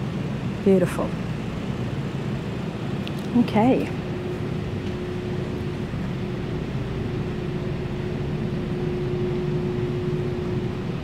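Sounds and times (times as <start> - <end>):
constant mid-pitched tone: 0.0 - 11.0
steady mechanical hum: 0.0 - 11.0.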